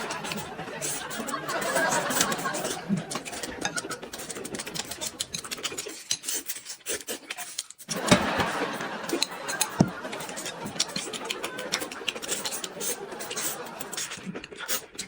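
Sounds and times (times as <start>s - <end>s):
dishes and utensils clinking: 0.0s - 6.7s, 7.3s - 14.2s.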